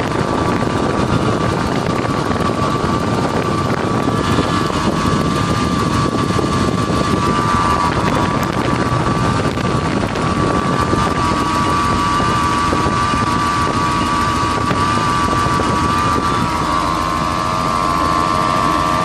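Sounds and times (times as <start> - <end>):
car engine running: 0.0 - 19.0
high whine: 0.0 - 19.0.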